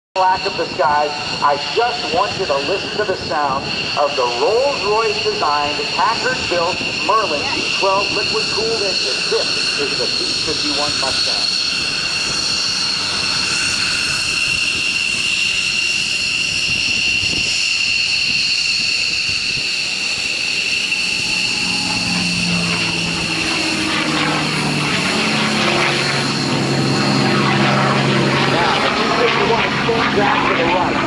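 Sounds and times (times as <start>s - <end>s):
high-pitched whine: 0.2s - 31.0s.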